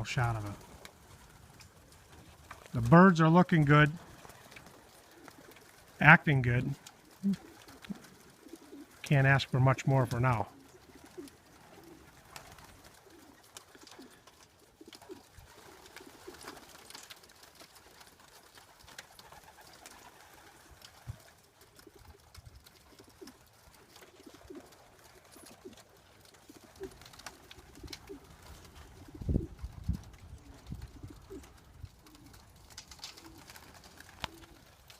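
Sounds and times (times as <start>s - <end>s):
faint clicks and rustles: 0.4s - 3.0s, 3.7s - 9.1s, 10.4s - 34.9s
pigeons cooing: 3.7s - 9.1s, 10.0s - 34.9s.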